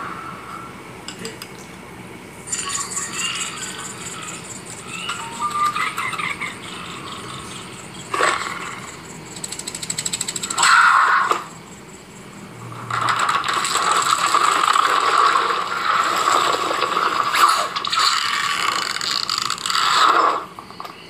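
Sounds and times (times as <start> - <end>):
busy mechanical sound effect: 2.4 - 20.9.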